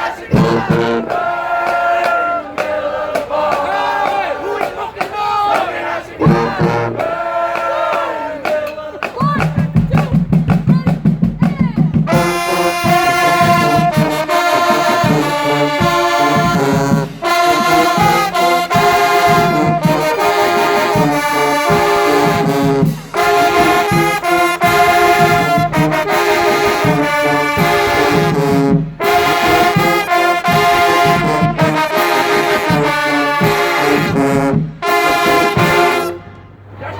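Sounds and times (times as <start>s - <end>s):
brass band playing: 0.0s - 36.8s.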